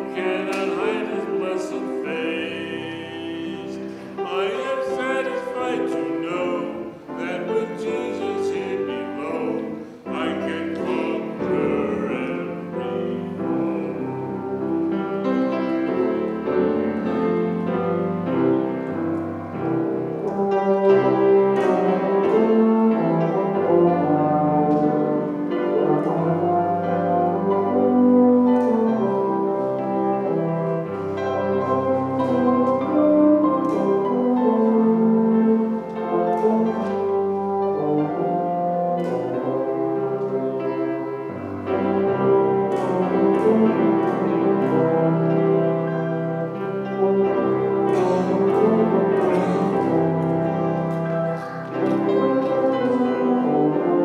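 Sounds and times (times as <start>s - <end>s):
piano chords: 0.0s - 54.0s.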